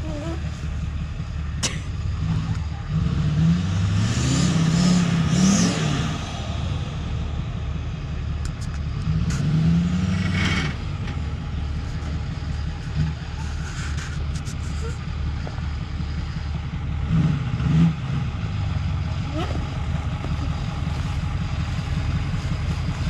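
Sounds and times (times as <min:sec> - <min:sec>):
engine idling: 0:00.0 - 0:23.0
pickup engine revving: 0:00.0 - 0:23.0.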